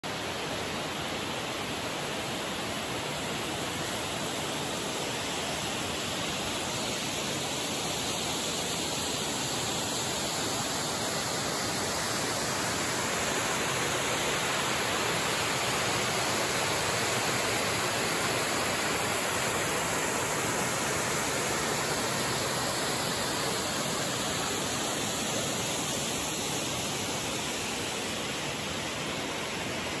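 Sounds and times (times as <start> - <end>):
waterfall rushing over rock: 0.1 - 30.0.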